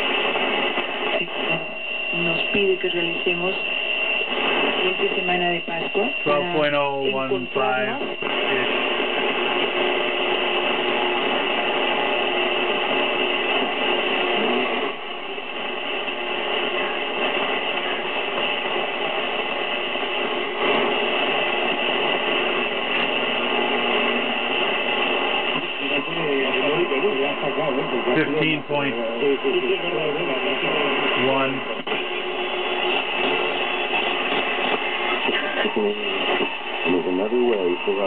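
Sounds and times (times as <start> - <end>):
radio static hiss: 0.0 - 38.0.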